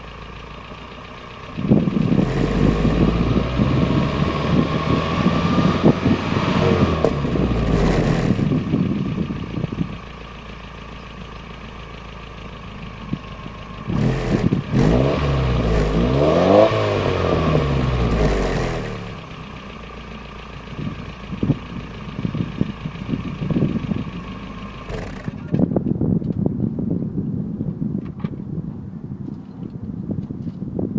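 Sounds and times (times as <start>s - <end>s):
car engine idling and revving: 0.0s - 30.6s.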